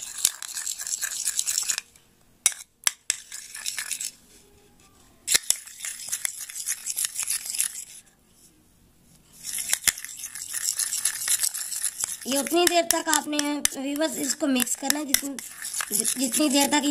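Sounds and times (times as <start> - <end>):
spoon scraping paste in bowl: 0.0 - 1.9, 2.5 - 4.2, 5.3 - 8.0, 9.3 - 16.9.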